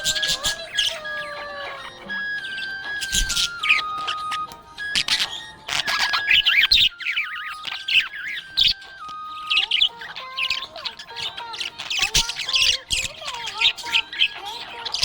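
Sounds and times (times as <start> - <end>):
budgerigar squawks: 0.0 - 15.0
budgerigars chirping: 0.0 - 15.0.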